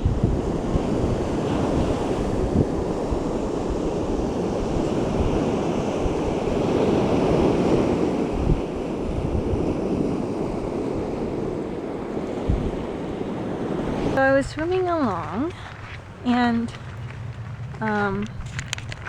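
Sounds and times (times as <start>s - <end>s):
small waves washing onto beach: 0.0s - 19.0s
wind buffeting microphone: 0.0s - 19.0s.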